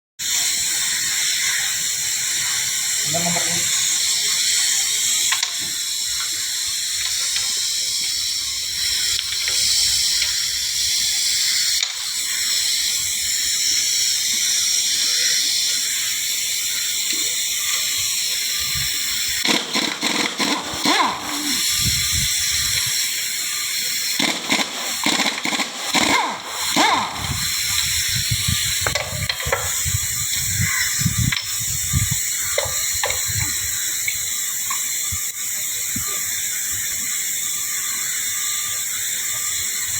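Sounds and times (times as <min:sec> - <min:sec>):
loud steady hiss: 0:00.2 - 0:39.9.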